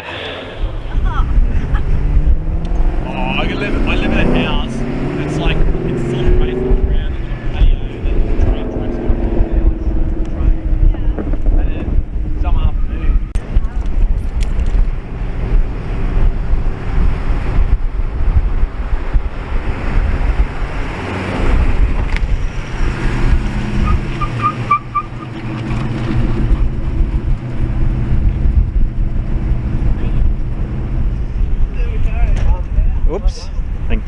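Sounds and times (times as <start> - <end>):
wind buffeting microphone: 0.2 - 34.0
car engine running: 0.5 - 34.0.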